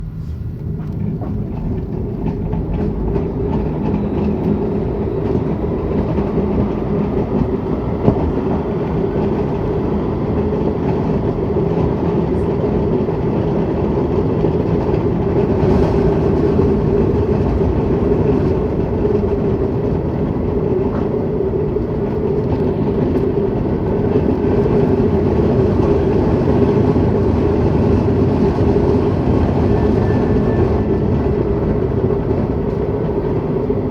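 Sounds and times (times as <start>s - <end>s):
tram motor and rolling rumble: 0.0s - 33.9s.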